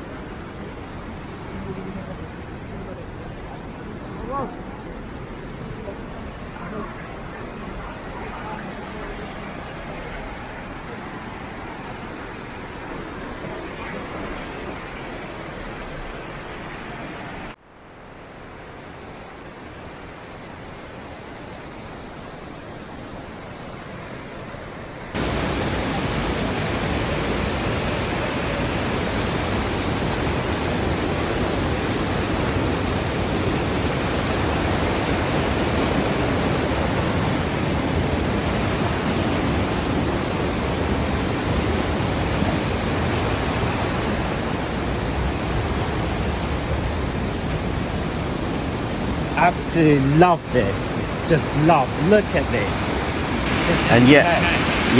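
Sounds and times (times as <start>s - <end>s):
waterfall rushing: 0.0s - 17.6s, 25.1s - 54.9s.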